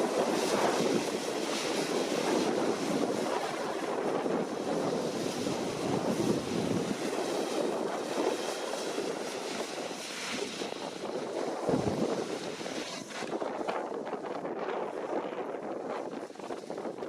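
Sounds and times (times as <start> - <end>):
combine harvester running: 0.0 - 14.0
wind buffeting microphone: 0.0 - 17.0.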